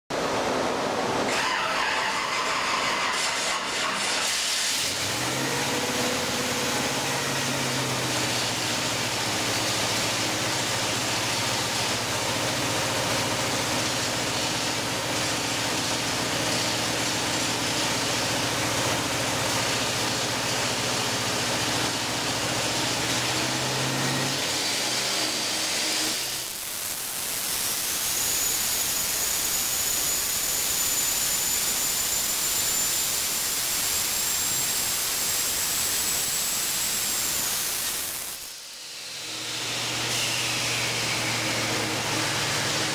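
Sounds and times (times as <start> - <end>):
loud engine running on dyno: 0.1 - 42.9.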